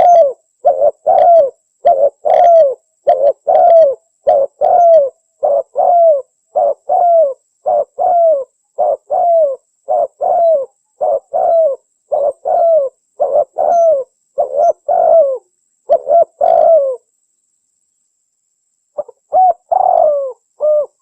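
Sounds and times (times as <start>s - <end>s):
dove cooing: 0.0s - 17.1s, 19.0s - 21.0s.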